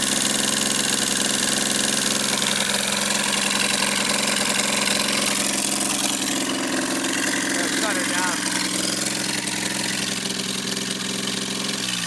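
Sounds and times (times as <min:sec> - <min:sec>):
petrol engine idling: 0:00.0 - 0:12.0.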